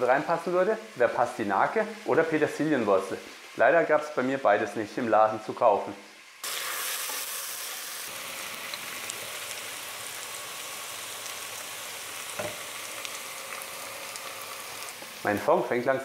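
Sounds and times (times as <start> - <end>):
vegetables sizzling in butter: 0.0 - 16.0.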